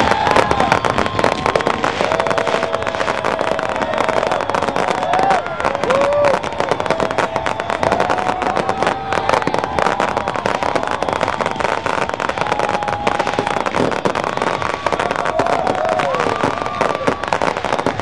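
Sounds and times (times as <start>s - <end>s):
crowd whooping: 0.0s - 18.0s
fireworks crackling and popping: 0.0s - 18.0s.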